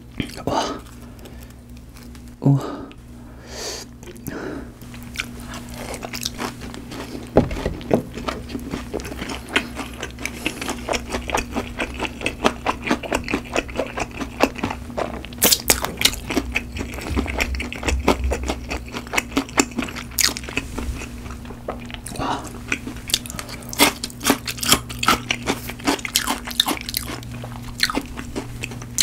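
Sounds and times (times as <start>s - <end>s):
crunchy chewing: 4.0s - 29.0s.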